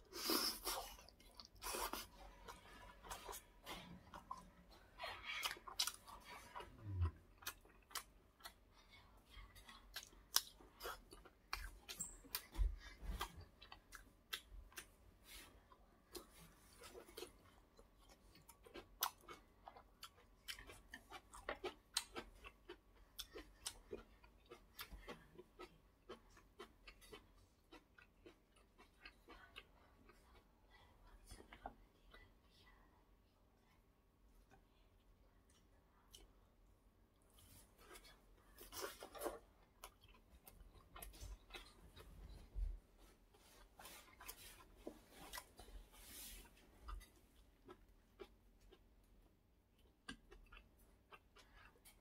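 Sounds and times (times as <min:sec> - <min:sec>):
person chewing food: 0:00.0 - 0:32.5, 0:33.6 - 0:52.0.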